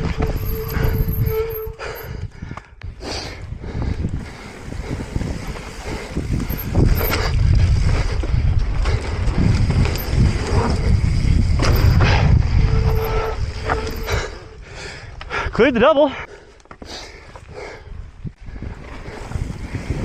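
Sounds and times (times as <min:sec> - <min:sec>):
bike tyres rumbling on dirt: 0:00.0 - 0:02.6, 0:03.4 - 0:15.2, 0:16.8 - 0:20.0
wind on microphone: 0:00.0 - 0:15.2, 0:17.4 - 0:20.0.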